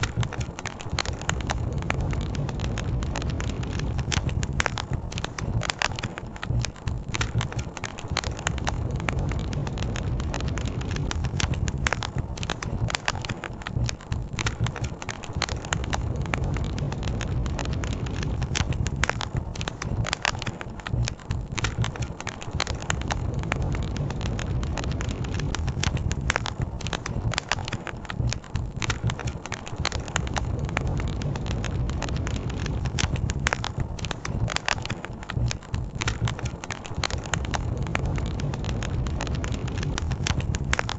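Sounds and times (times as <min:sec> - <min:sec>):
wood campfire crackling: 0:00.0 - 0:40.9.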